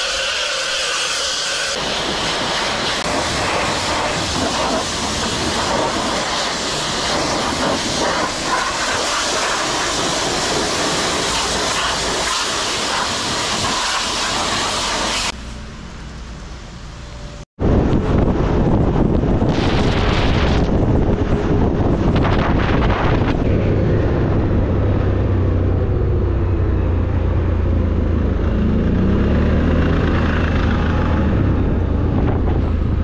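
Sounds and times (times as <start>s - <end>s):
wind on microphone: 1.8s - 14.7s, 17.6s - 33.0s
quad bike engine and tyres: 3.5s - 33.0s.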